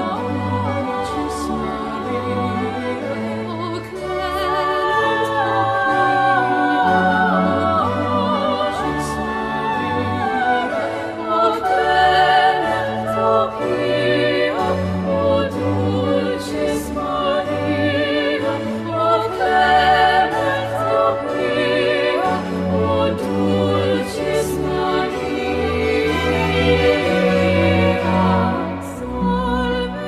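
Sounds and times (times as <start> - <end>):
operatic singing with vibrato: 0.0 - 30.0.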